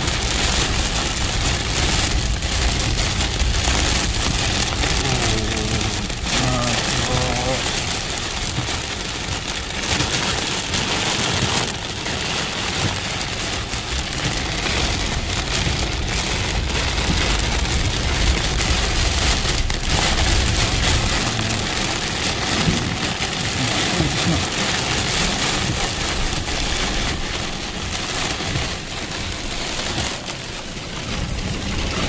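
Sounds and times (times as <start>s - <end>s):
heavy rain pouring: 0.0s - 32.0s.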